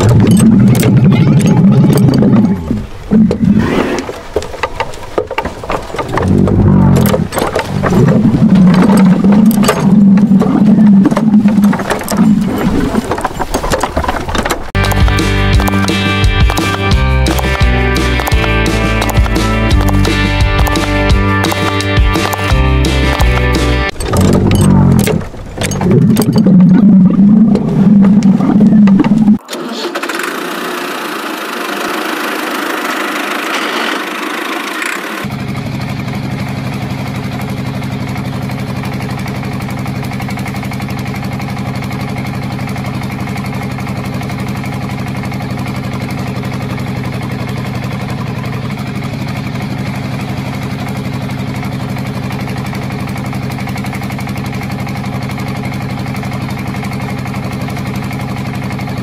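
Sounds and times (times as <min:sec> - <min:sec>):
engine idling: 0:05.1 - 0:59.0.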